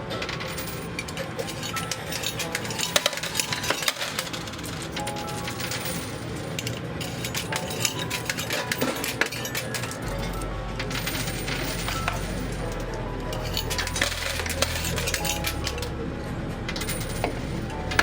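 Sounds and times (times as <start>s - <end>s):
coins clinking and dropping: 0.0s - 16.0s, 16.7s - 18.0s
background music: 0.0s - 18.0s.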